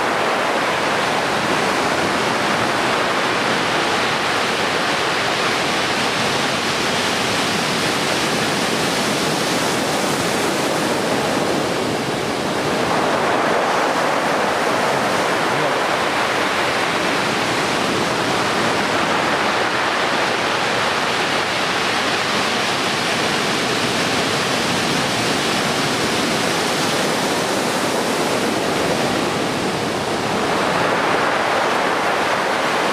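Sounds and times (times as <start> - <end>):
surf breaking on a beach: 0.0 - 32.9.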